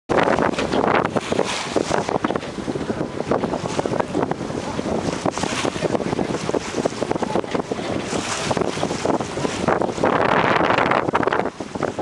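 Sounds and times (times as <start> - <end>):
rushing waves and water: 0.1 - 12.0
wind buffeting microphone: 0.1 - 12.0.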